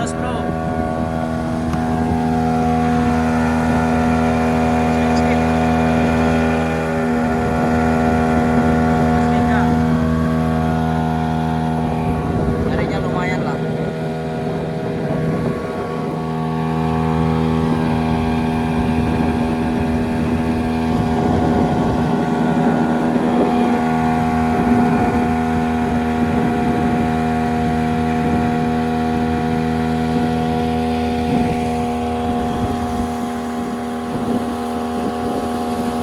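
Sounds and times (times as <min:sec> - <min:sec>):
outboard motor running: 0:00.0 - 0:36.0.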